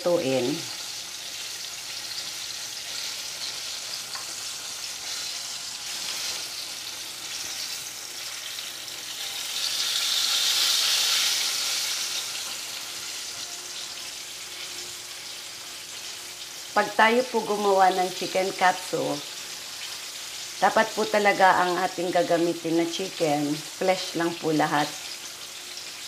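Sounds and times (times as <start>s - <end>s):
chicken sizzling in hot oil: 0.0s - 26.0s
tongs turning food in oil: 0.1s - 26.0s.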